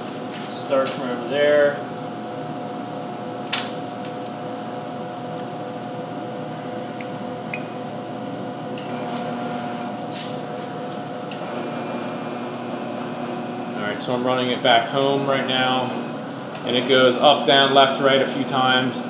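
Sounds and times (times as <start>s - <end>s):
electrical and fan hum: 0.0s - 19.0s.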